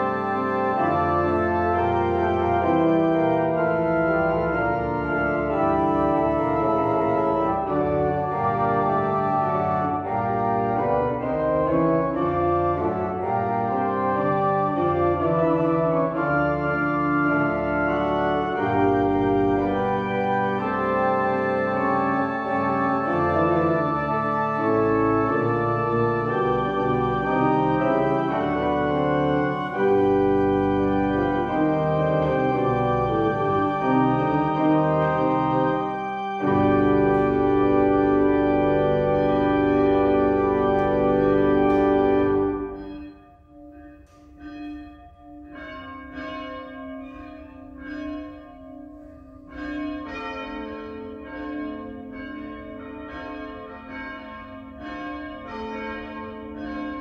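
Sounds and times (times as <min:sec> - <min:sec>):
church bells pealing: 0:00.0 - 0:57.0
pipe organ chords: 0:00.0 - 0:57.0.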